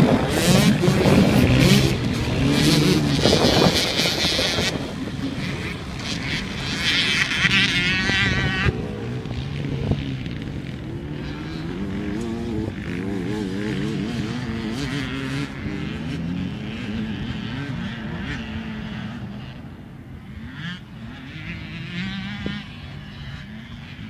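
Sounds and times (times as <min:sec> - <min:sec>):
distant engines revving: 0:00.0 - 0:24.0
high-pitched engine close by: 0:00.0 - 0:24.0.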